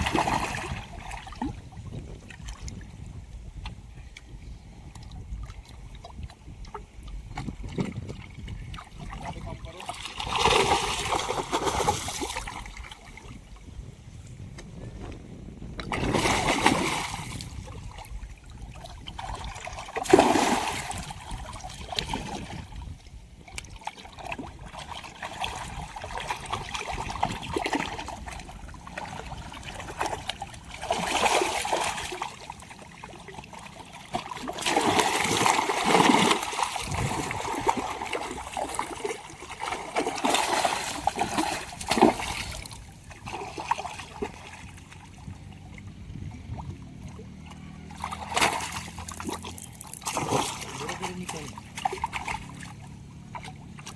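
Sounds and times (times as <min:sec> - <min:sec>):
water splashing: 0:00.0 - 0:03.0, 0:04.9 - 0:13.7, 0:15.8 - 0:53.9
water lapping and dripping: 0:00.0 - 0:13.8, 0:15.7 - 0:53.9.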